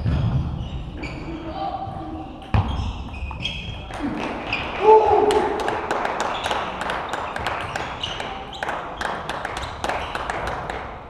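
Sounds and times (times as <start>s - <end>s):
low murmur of sports hall: 0.0s - 11.0s.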